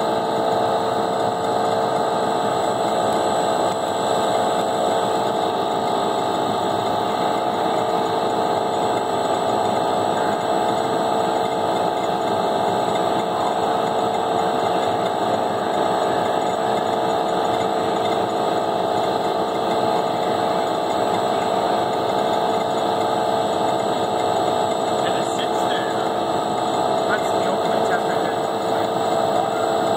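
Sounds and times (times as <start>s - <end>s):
agitator mechanical hum: 0.0s - 29.9s.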